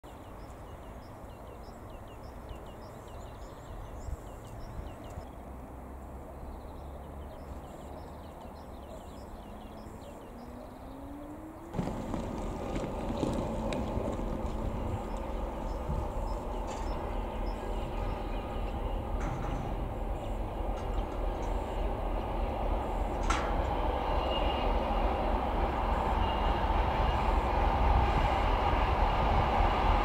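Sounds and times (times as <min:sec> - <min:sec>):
diesel locomotive engine rumbling: 0:00.1 - 0:30.0.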